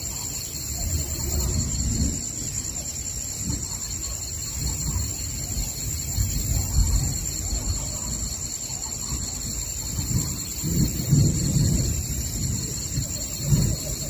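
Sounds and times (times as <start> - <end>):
distant thunder rumble: 0.0 - 14.0
high-pitched insect chorus: 0.0 - 14.0.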